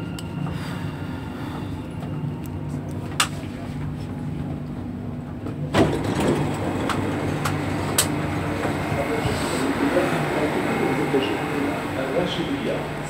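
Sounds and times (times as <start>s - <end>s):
passengers' voices: 0.0s - 13.0s
train doors opening rush: 0.0s - 13.0s
train humming: 0.0s - 13.0s.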